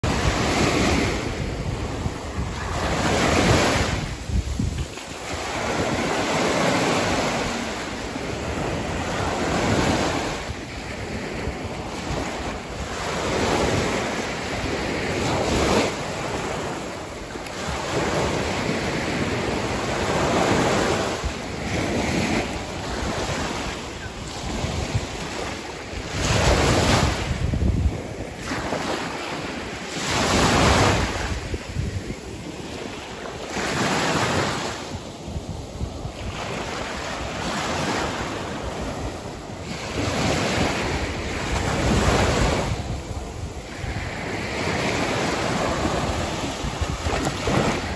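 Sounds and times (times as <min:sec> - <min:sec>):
waves washing up shore: 0:00.0 - 0:47.9
wind buffeting microphone: 0:00.0 - 0:47.9.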